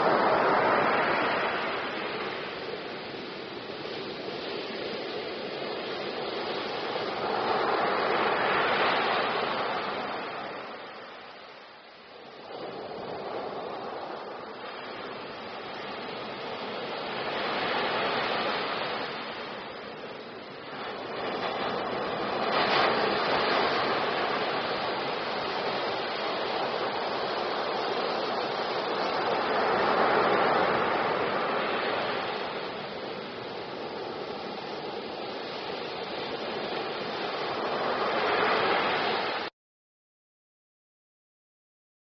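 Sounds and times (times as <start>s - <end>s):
ocean waves breaking on beach: 0.0s - 39.5s.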